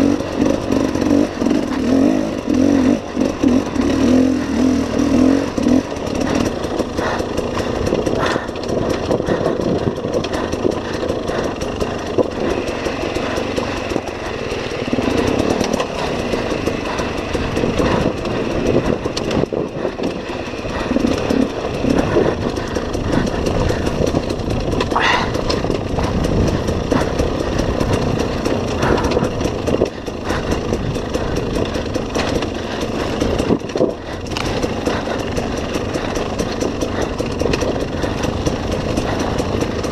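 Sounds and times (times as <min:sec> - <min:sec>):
bike knocking and rattling on stones: 0:00.0 - 0:39.9
dirt bike engine revving: 0:00.0 - 0:39.9.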